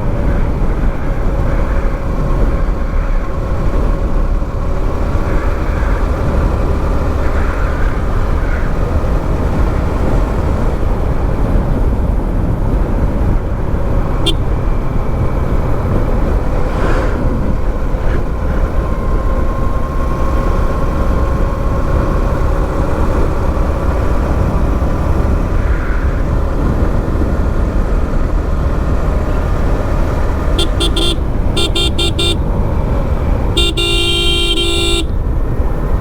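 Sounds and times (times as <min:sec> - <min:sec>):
motorcycle engine running: 0:00.0 - 0:36.0
wind rush on microphone: 0:00.0 - 0:36.0.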